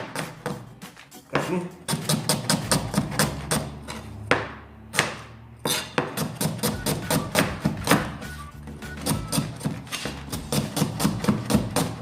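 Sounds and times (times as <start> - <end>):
knife chopping on cutting board: 0.0 - 0.7, 1.4 - 8.2, 9.0 - 12.0.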